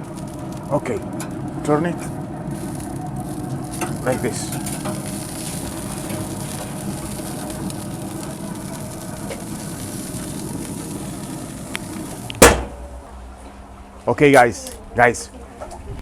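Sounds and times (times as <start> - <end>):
low hum: 0.0 - 15.0
smoker barbecue rushing noise: 0.0 - 16.0.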